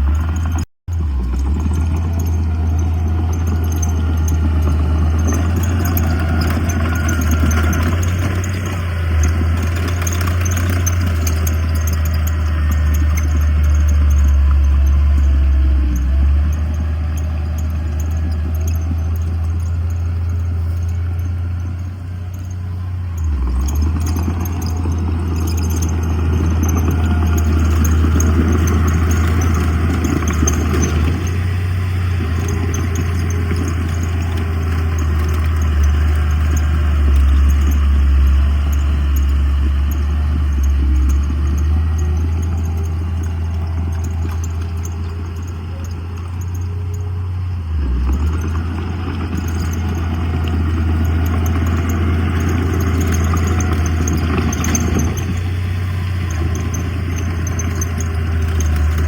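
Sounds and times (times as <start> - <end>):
diesel machinery engine drone: 0.0 - 59.0
faint clatter: 0.0 - 59.0.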